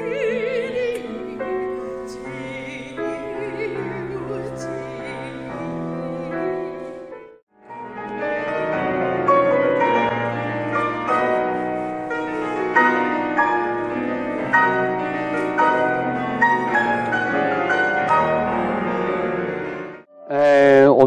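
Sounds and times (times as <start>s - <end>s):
piano duo playing: 0.0s - 21.0s.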